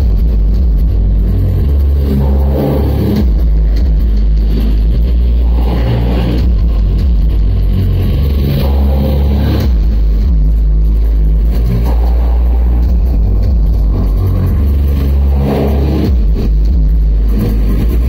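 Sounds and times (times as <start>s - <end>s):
loud electronic music: 0.0s - 18.0s.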